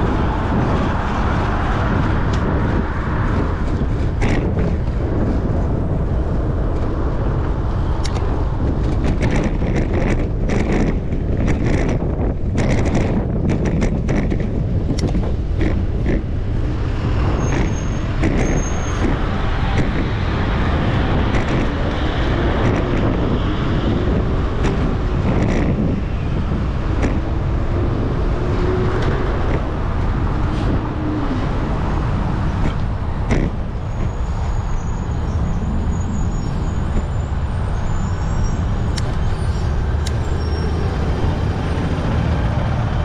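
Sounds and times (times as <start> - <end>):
road traffic hum: 0.0 - 43.0
wind rush on microphone: 0.0 - 43.0.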